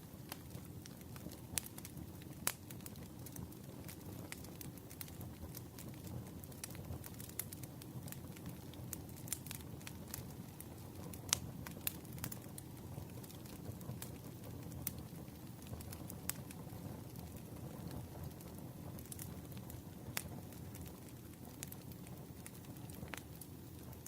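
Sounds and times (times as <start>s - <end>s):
campfire rumble: 0.0s - 24.0s
fire crackles and pops: 0.0s - 24.0s.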